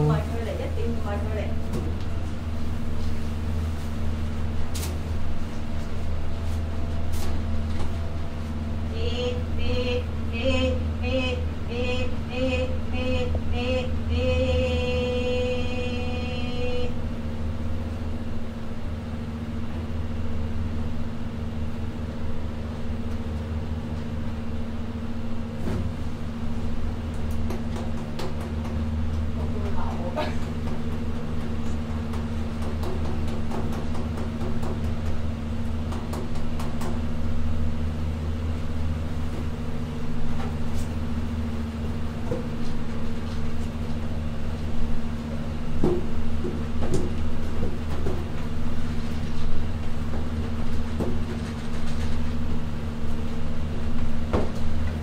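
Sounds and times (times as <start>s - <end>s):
low mechanical drone: 0.0s - 55.0s.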